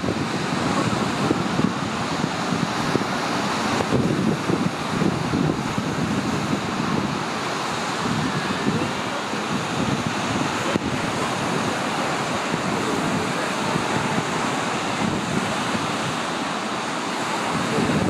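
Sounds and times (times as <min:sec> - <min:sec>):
lake surf washing ashore: 0:00.0 - 0:18.0
wind buffeting microphone: 0:00.0 - 0:18.0.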